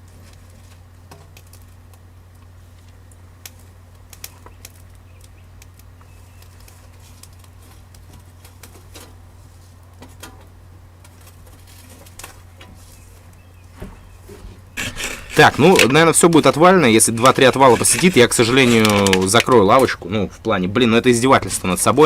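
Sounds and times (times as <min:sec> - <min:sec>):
campfire wood crackling: 0:00.0 - 0:22.0.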